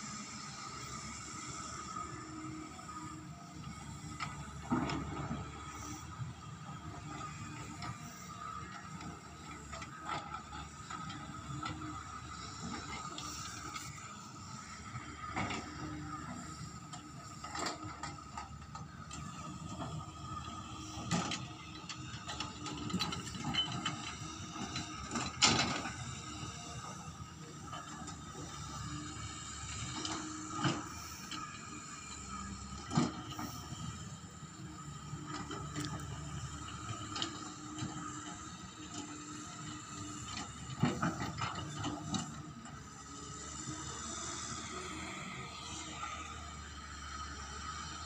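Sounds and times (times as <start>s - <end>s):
excavator engine and hydraulic drone: 0.0s - 48.0s.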